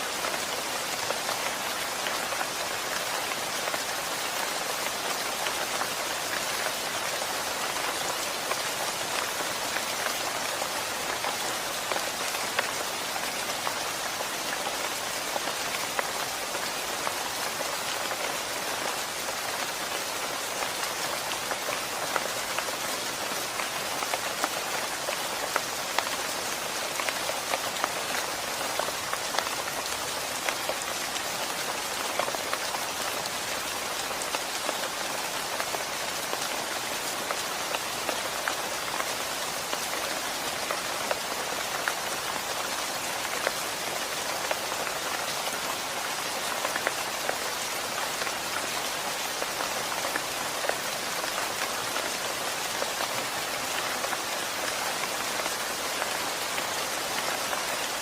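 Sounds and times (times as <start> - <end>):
rain falling on surfaces: 0.0 - 58.0.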